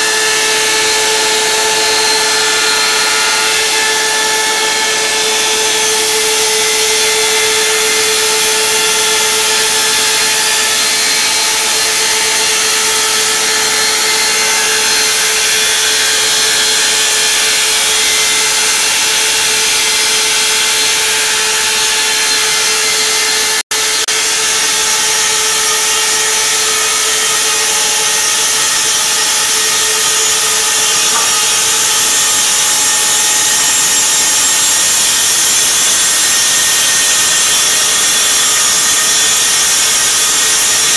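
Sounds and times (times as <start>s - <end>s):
saw machine cutting boards: 0.0s - 40.9s.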